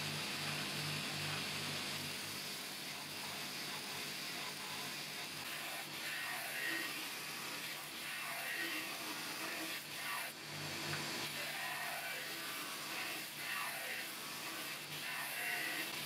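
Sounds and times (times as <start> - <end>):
machine hum and hiss: 0.0 - 16.0.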